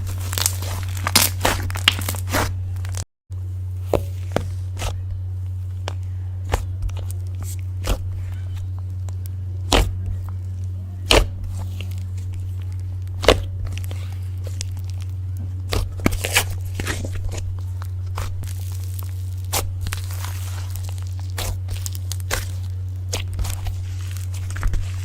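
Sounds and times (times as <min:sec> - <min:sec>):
slime popping and crackling: 0:00.0 - 0:03.0, 0:03.9 - 0:25.0
steady low hum: 0:00.0 - 0:25.0.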